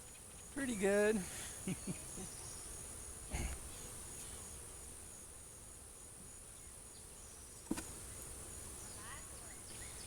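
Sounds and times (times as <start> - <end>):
insects chirping chorus: 0.0 - 10.0.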